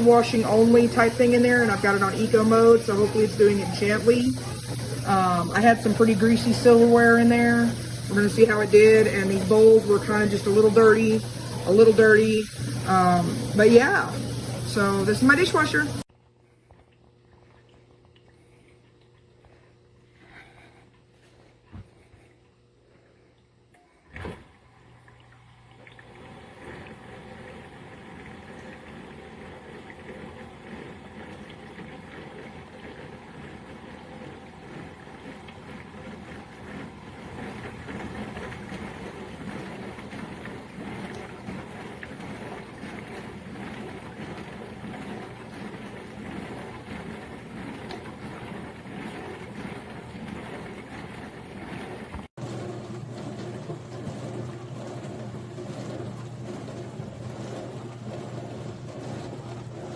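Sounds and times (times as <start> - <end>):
water spraying and sloshing: 0.0 - 16.1, 24.1 - 59.9
dishwasher pump motor hum: 0.0 - 59.9.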